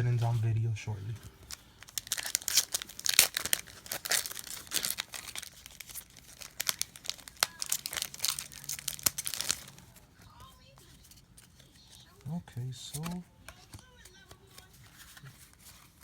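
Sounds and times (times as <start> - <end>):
foil wrapper crinkling and tearing: 1.2 - 16.0.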